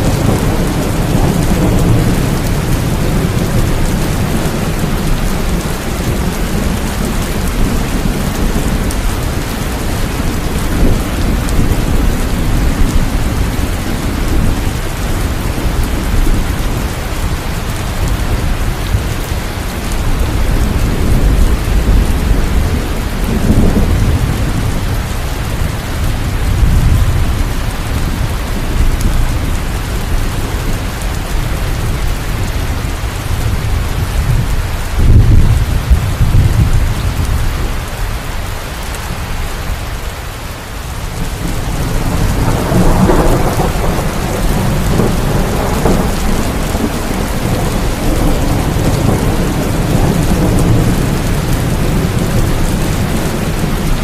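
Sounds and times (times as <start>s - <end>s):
rolling thunder: 0.0s - 37.7s, 41.1s - 54.0s
heavy rain: 0.0s - 54.0s.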